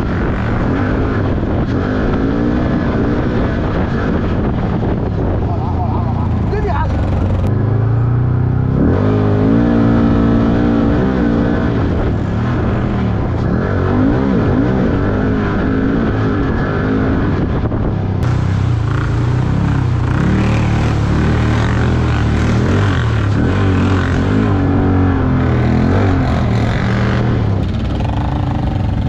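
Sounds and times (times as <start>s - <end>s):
quad engine revving: 0.0s - 29.0s.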